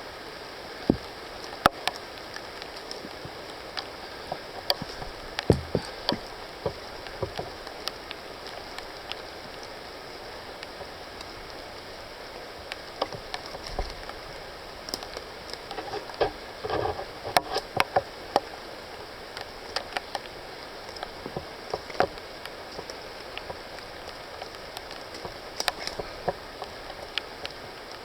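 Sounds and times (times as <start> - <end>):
leaves rustling: 0.0 - 28.0
steady hiss: 0.0 - 28.0
twigs crackling: 0.7 - 28.0.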